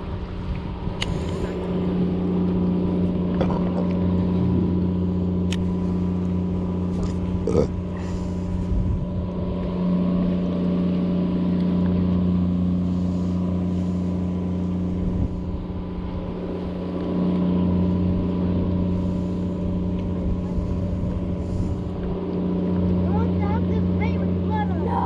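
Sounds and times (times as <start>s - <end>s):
motorboat engine droning: 0.0s - 25.0s.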